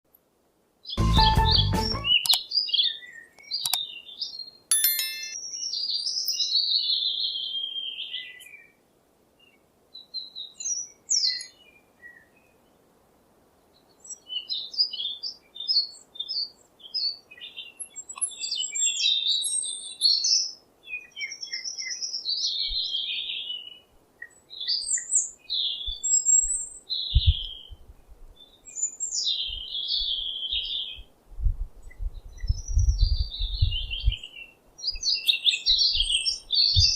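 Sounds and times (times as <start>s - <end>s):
songbirds singing and chirping: 0.8s - 8.8s, 9.4s - 12.9s, 13.6s - 31.2s, 31.8s - 36.9s.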